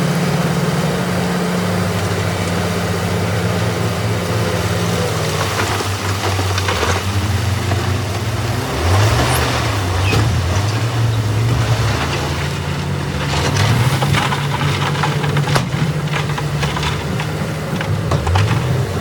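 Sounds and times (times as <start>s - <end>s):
heavy diesel engine under load: 0.0s - 19.0s.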